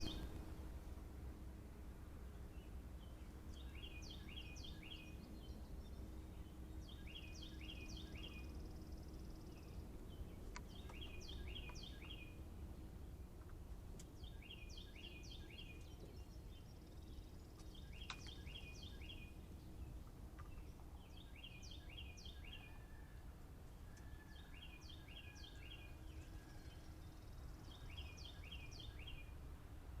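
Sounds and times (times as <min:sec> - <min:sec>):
songbird singing: 0:00.0 - 0:00.8, 0:02.2 - 0:30.0
faint low background rumble: 0:00.0 - 0:30.0.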